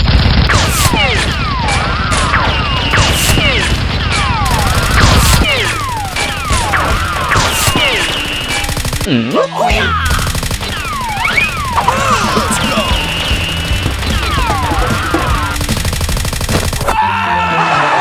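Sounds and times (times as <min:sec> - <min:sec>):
gunshots: 0:00.0 - 0:09.1, 0:09.8 - 0:17.0.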